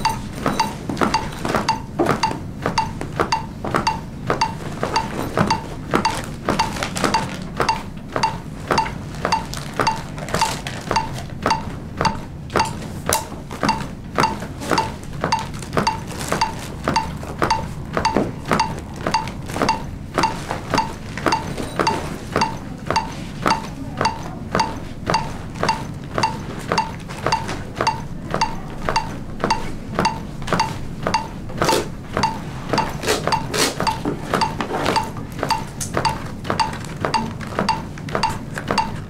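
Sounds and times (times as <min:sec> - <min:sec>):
metronome beeping: 0:00.0 - 0:12.8, 0:13.6 - 0:39.0.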